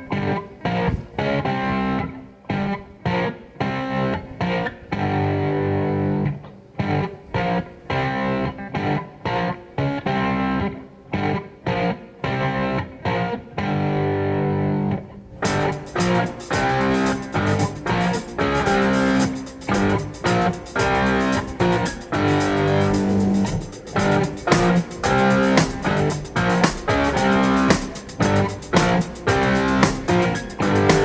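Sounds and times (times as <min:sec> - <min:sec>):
electric guitar music: 0:00.0 - 0:31.0.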